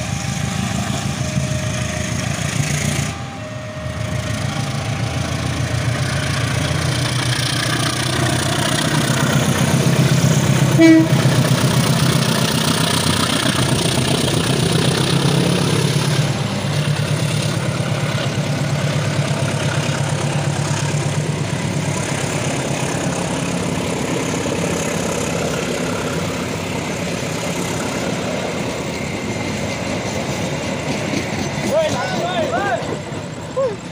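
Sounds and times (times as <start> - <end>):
diesel locomotive engine drone: 0.0 - 33.9
train coaches rolling: 0.0 - 33.9.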